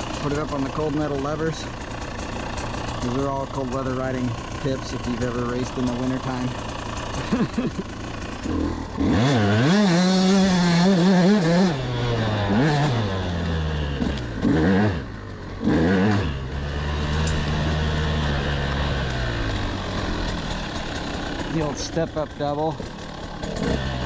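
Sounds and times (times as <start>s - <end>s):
motocross engine revving: 0.0s - 24.0s.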